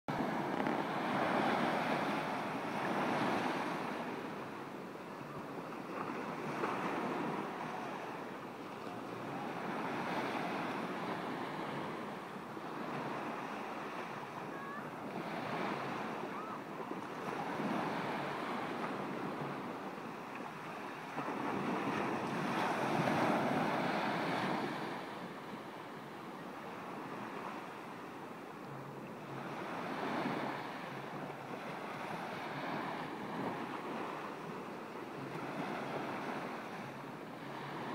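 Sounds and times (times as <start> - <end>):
waves breaking on sandy beach: 0.1 - 37.9.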